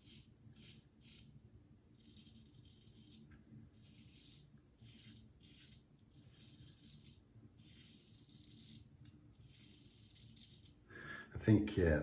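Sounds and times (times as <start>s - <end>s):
razor scraping stubble: 0.0s - 1.3s, 2.0s - 10.8s.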